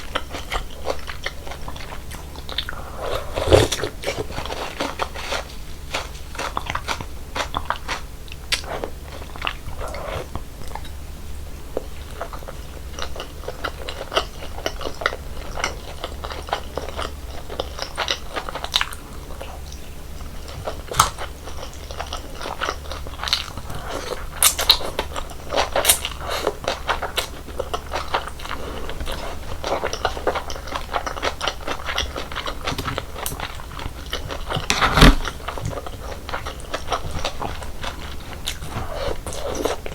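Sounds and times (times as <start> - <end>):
crunching and chewing: 0.0 - 11.0, 11.7 - 39.9.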